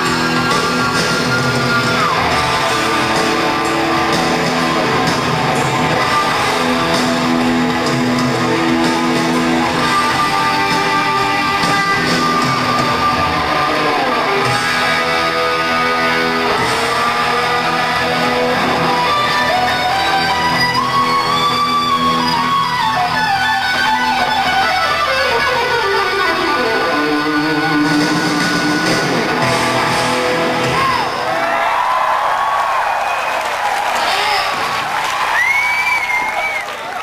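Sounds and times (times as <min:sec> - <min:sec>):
lead guitar bending notes: 0:00.0 - 0:31.1
hard rock band playing live: 0:00.0 - 0:31.9.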